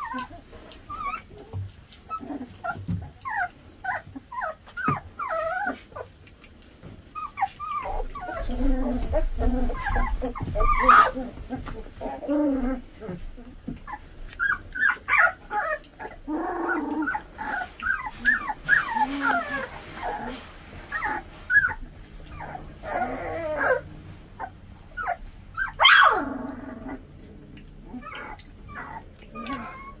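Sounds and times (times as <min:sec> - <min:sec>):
puppy crying: 0:00.0 - 0:06.2, 0:07.1 - 0:27.1, 0:27.8 - 0:30.0
puppies squeaking and whining: 0:00.0 - 0:30.0.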